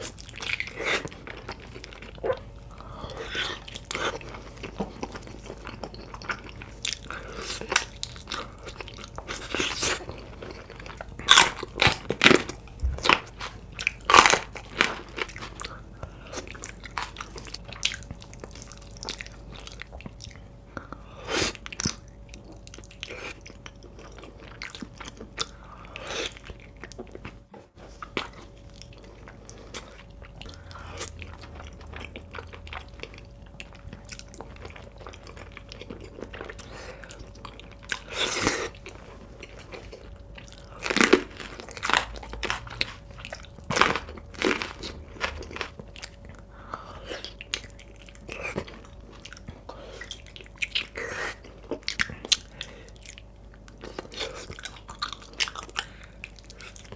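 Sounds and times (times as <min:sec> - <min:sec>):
biting and chewing food: 0:00.0 - 0:56.9.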